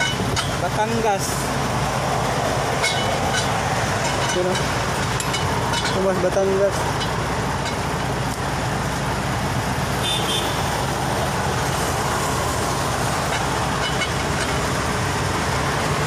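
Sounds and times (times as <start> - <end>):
cars passing on highway: 0.0 - 16.0
diesel truck engine idling: 0.0 - 16.0.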